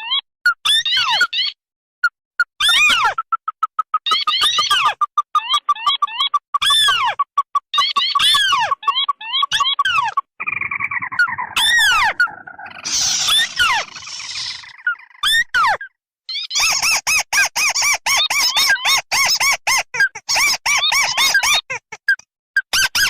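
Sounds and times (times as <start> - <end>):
recorded crake calls: 0.0 - 23.0.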